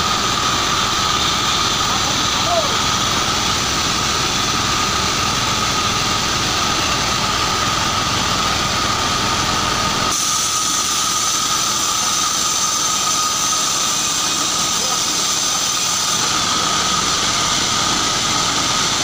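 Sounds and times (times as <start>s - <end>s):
band sawmill whining: 0.0s - 19.0s.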